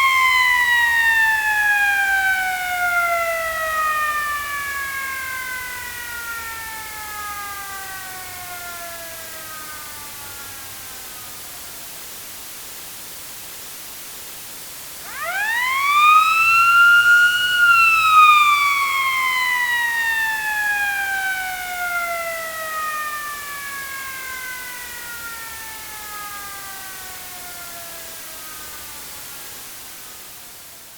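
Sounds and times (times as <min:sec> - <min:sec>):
siren wailing: 0:00.0 - 0:11.8, 0:15.0 - 0:29.7.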